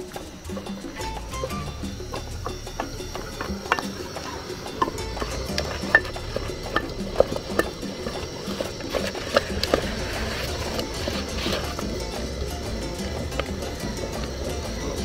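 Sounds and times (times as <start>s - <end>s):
wooden spatula scraping metal pot: 0.0s - 15.0s.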